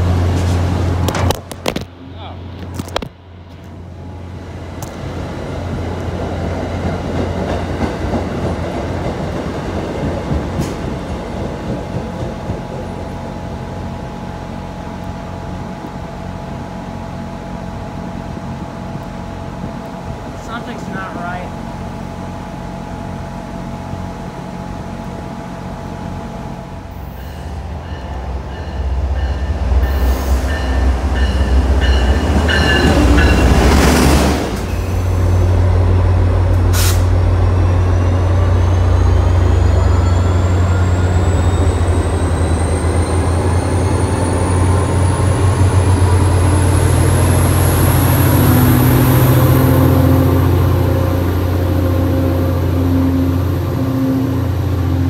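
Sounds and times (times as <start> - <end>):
diesel locomotive low hum: 0.0 - 55.0
train passing with loud rush: 0.0 - 55.0.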